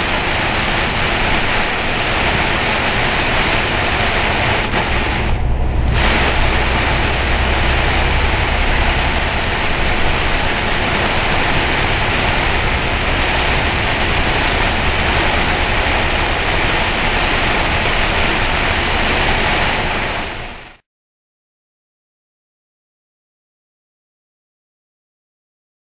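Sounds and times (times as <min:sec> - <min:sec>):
heavy rain pelting a vehicle: 0:00.0 - 0:20.8
low engine rumble: 0:00.0 - 0:20.8.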